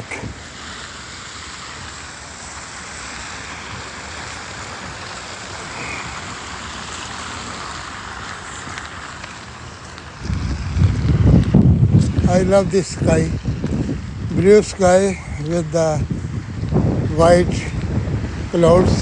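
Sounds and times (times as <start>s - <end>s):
road traffic hiss: 0.0s - 19.0s.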